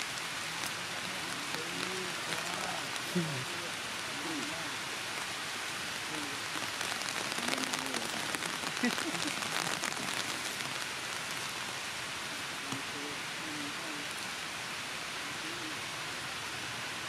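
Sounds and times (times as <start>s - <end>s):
close raindrop hits: 0.0s - 14.6s
steady rain falling: 0.0s - 17.0s.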